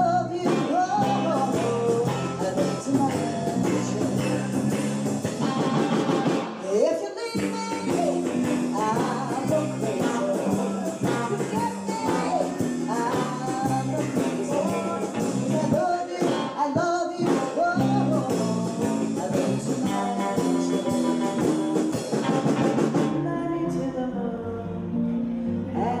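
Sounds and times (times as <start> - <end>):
blues-rock band music: 0.0 - 6.8, 7.4 - 24.3.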